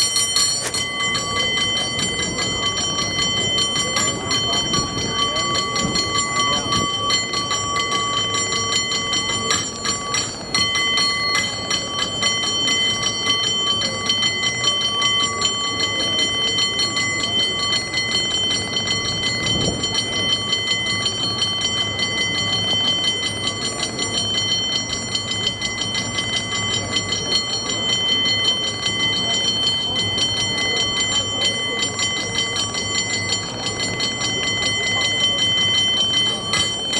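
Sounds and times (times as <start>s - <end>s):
cable car bell ringing rapidly: 0.0s - 36.9s.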